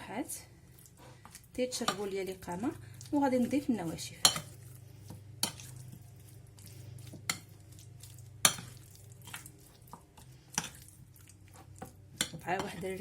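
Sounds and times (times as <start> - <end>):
wet stirring in a bowl: 0.0 - 13.0.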